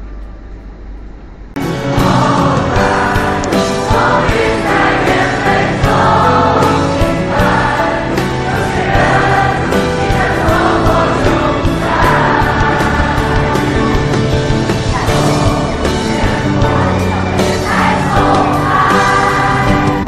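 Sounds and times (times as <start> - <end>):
choir-like singing over beat: 1.6 - 20.0.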